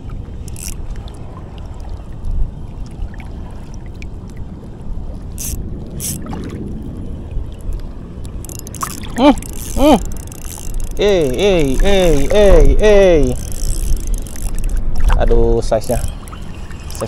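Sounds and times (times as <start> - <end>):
moving water: 0.0 - 17.0
wind rumbling on microphone: 0.0 - 17.0.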